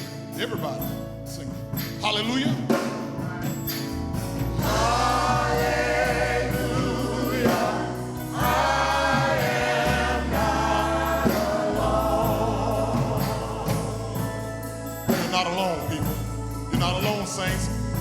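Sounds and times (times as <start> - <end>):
instrumental accompaniment: 0.0 - 18.0
choir and congregation singing: 2.7 - 18.0.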